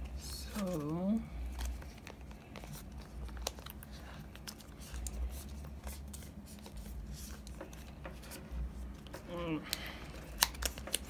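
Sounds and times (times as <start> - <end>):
paper rustling and crinkling: 0.2 - 11.0.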